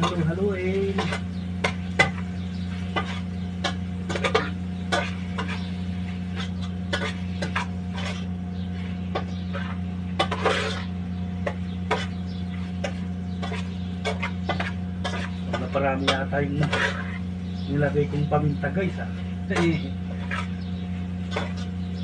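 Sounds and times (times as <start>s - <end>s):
steady low hum: 0.0s - 22.0s
utensil scraping cooking pot: 0.0s - 22.0s.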